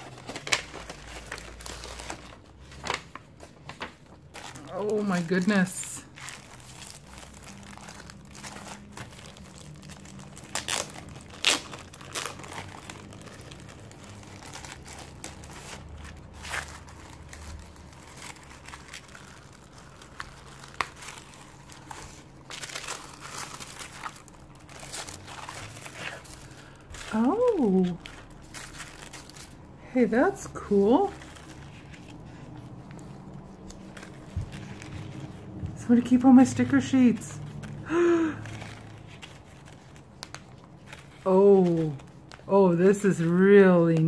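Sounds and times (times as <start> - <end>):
plastic wrap crinkling and tearing: 0.0 - 44.0
tissue paper rustling: 0.0 - 44.0.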